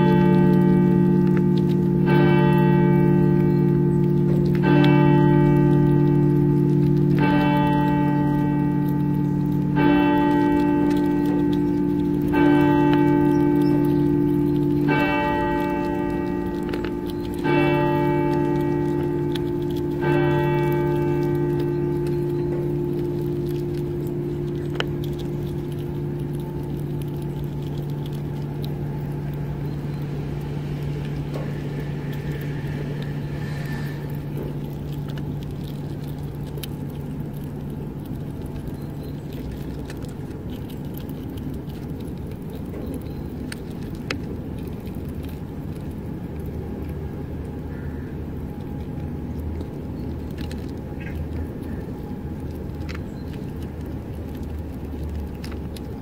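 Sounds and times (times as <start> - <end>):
low hum and rumble: 0.0 - 56.0
squirrel nibbling clicks and scrapes: 0.0 - 56.0.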